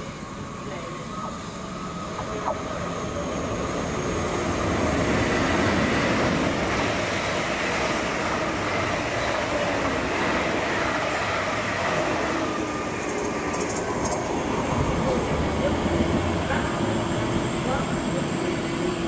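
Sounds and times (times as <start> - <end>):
electric train wheels rumbling on rail: 0.0 - 19.0.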